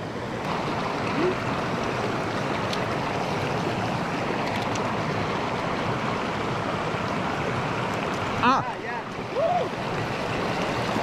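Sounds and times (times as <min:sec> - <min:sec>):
river water rushing over shallows: 0:00.0 - 0:11.0.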